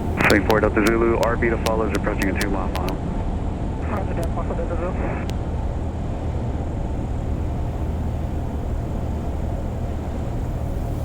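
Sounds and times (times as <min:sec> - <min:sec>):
airplane engine droning in cabin: 0:00.0 - 0:11.0.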